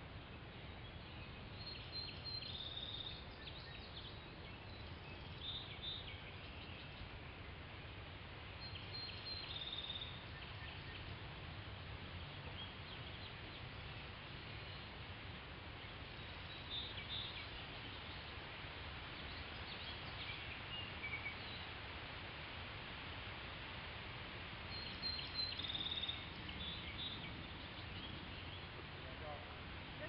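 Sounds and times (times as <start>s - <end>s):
low outdoor background noise: 0.0s - 30.0s
birds chirping: 0.3s - 22.9s, 24.3s - 30.0s.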